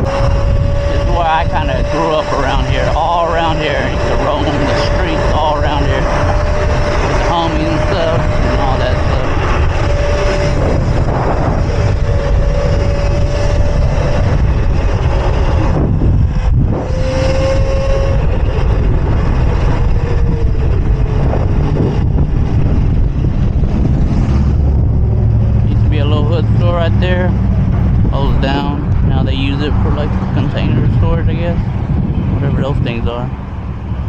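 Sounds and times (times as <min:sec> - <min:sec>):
electric motor whine: 0:00.0 - 0:31.3
wind buffeting microphone: 0:00.0 - 0:34.0.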